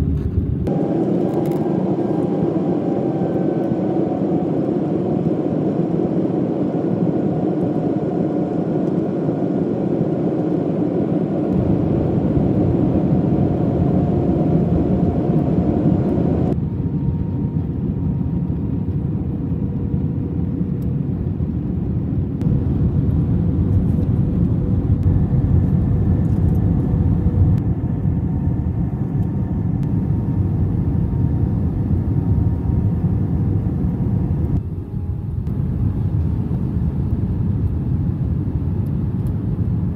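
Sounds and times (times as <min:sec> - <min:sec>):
airliner engines and airflow rushing: 0:00.0 - 0:39.9.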